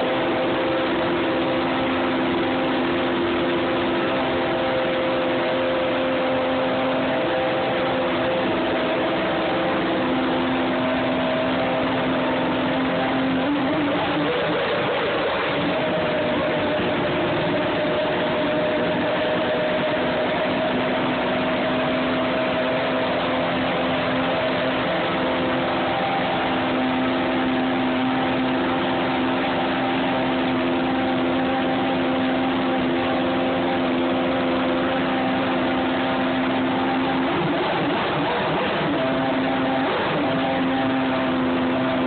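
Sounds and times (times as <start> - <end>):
race car engine idling: 0.0 - 42.0.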